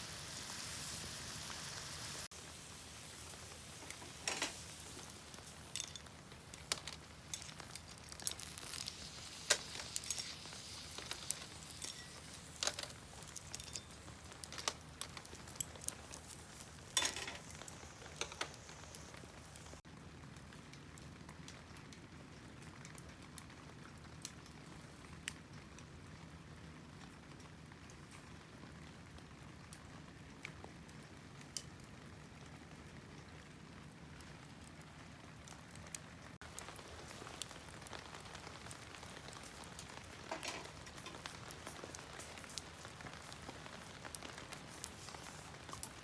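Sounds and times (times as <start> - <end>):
soft steady hiss: 0.0 - 46.0
wood fire crackling and popping: 0.0 - 46.0.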